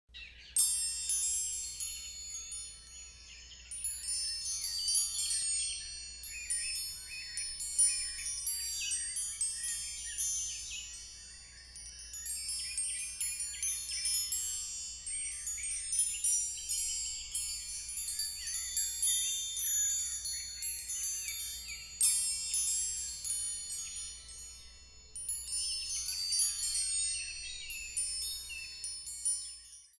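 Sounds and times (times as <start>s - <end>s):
wind chime ringing: 0.2s - 30.0s.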